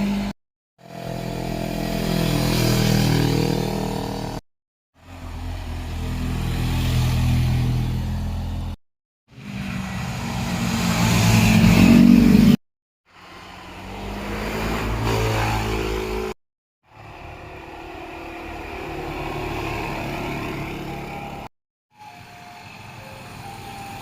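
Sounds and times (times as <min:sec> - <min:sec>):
motorcycle engines passing: 0:00.9 - 0:04.4, 0:05.0 - 0:12.6, 0:13.2 - 0:21.5.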